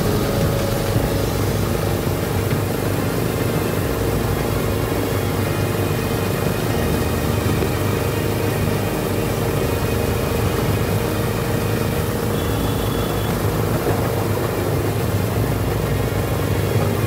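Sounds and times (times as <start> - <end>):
humming of moving car: 0.0 - 17.0
trolley rumbling on track: 0.0 - 17.0.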